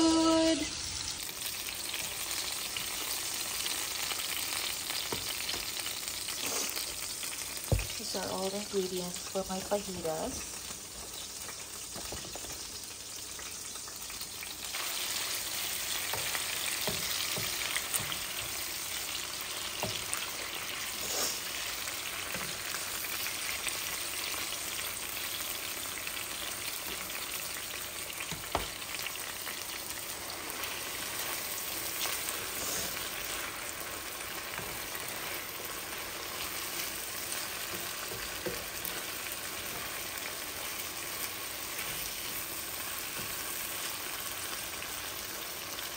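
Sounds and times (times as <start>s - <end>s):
food sizzling in hot oil: 0.0s - 45.9s.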